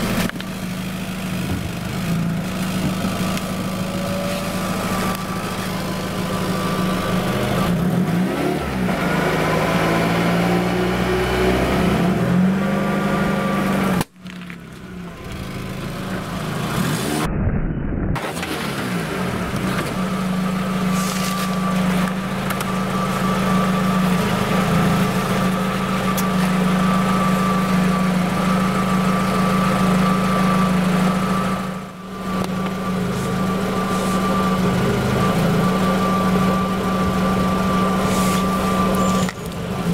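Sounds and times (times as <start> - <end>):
car engine humming: 0.0 - 17.3, 18.2 - 39.9.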